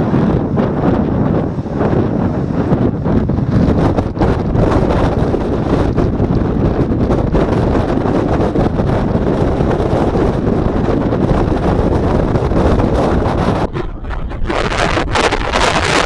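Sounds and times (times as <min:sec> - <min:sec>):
jet blast buffeting microphone: 0:00.0 - 0:16.0
jet engines rumbling: 0:00.0 - 0:16.0.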